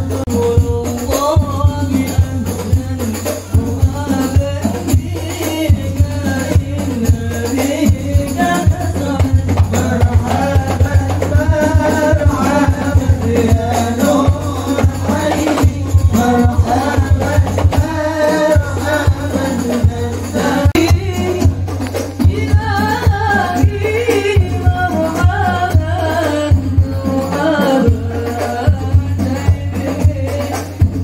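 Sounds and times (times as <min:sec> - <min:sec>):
men singing into microphones: 0:00.0 - 0:31.0.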